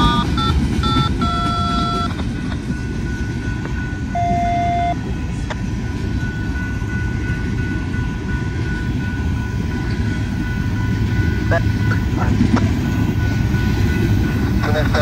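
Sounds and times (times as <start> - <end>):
freight train wheels clattering: 0.0 - 4.2, 4.9 - 15.0.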